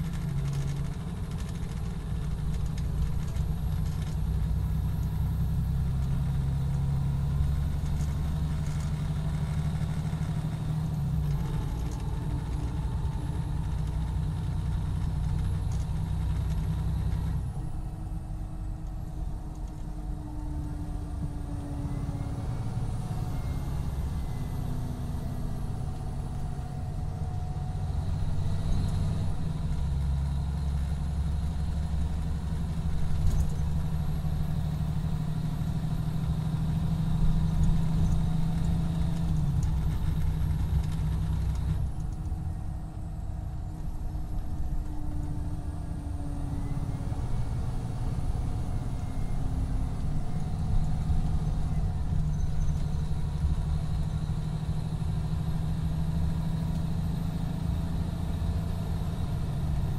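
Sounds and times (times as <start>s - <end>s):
diesel coach engine running: 0.0s - 59.9s.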